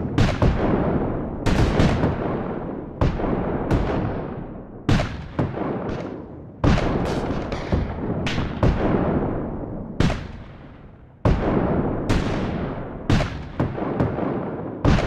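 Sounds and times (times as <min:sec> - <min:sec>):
cannon and musket fire: 0:00.0 - 0:15.0.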